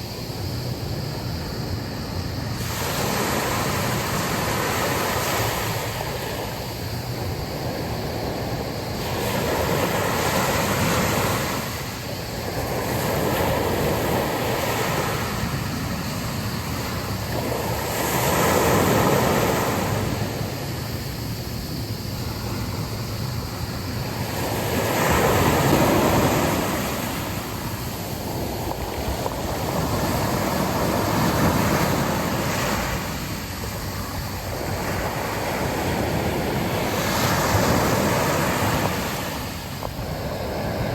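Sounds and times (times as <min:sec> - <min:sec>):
sea waves breaking on a beach: 0:00.0 - 0:40.9.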